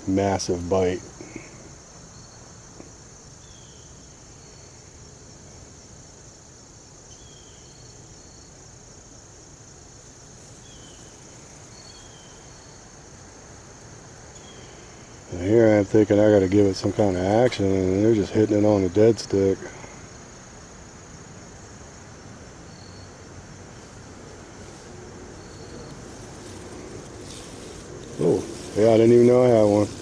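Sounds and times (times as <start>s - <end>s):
insect trilling: 0.0s - 30.0s.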